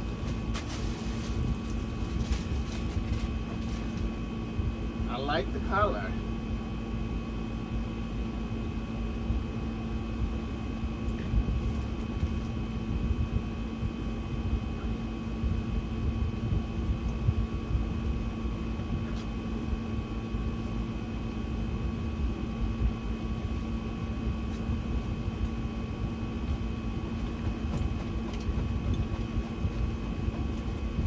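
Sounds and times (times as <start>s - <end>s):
motor hum with faint whine: 0.0s - 31.0s.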